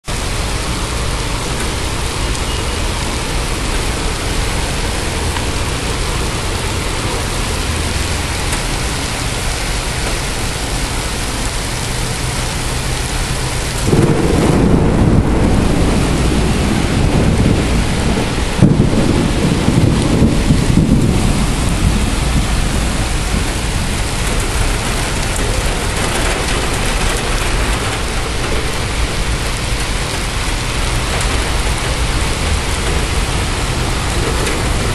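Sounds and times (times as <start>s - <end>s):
heavy rain: 0.0s - 34.9s
thunder rumbling: 0.1s - 34.9s.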